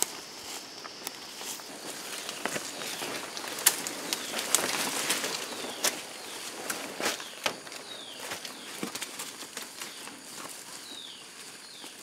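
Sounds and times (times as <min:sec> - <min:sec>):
footsteps crunching through dry leaves: 0:00.0 - 0:12.0
twigs snapping: 0:00.8 - 0:10.6.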